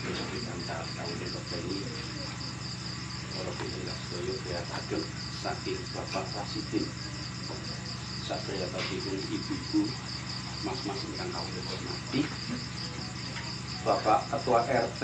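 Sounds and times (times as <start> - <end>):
constant low hum: 0.0 - 15.0
crickets chirping: 0.0 - 15.0
faint murmuring voices: 0.0 - 15.0.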